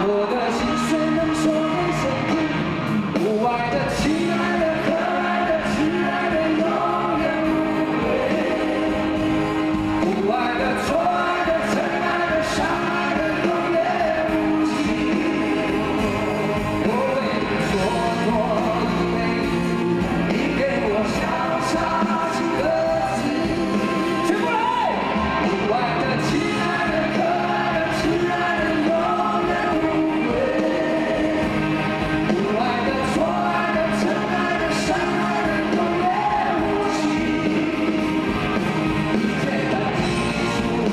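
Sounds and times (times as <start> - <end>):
electric guitar: 0.0 - 40.9
man singing rock ballad: 0.0 - 40.9.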